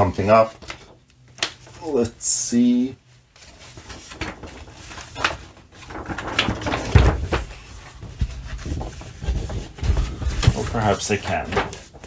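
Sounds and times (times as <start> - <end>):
stiff paper rustling and crackling: 0.2 - 2.0, 3.3 - 12.0.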